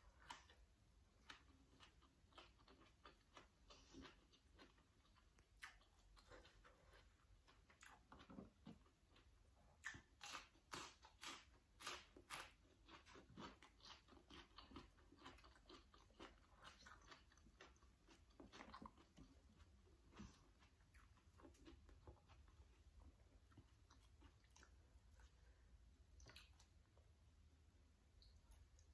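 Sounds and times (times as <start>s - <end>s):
person chewing crunchy vegetables: 0.0s - 27.2s.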